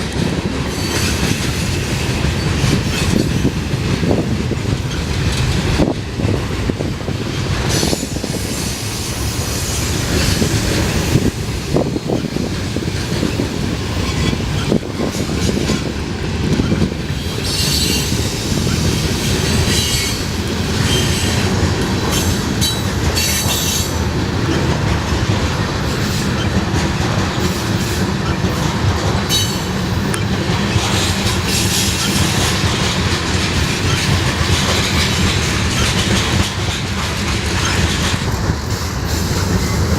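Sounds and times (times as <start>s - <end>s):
freight train rumbling past: 0.0s - 39.9s
wheels clacking over rail joints: 0.0s - 39.9s.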